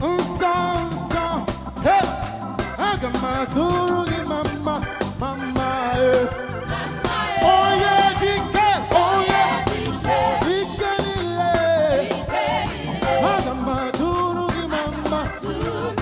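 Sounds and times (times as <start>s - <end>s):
gospel singing: 0.0s - 16.0s
live band with organ and drums: 0.0s - 16.0s.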